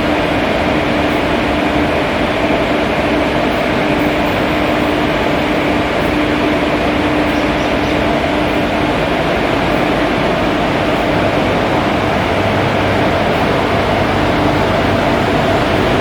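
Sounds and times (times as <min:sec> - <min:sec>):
constant hum: 0:00.0 - 0:16.0
train rumble inside coach: 0:00.0 - 0:16.0.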